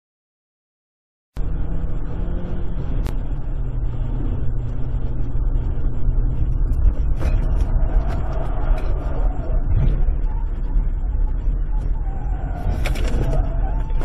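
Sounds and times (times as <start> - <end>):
car engine and road noise: 1.4 - 14.0.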